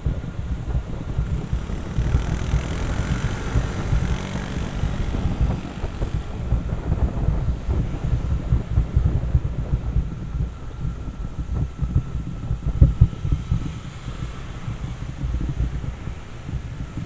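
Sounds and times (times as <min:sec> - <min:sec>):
road traffic noise: 0:00.0 - 0:17.0
wind buffeting microphone: 0:00.0 - 0:17.0.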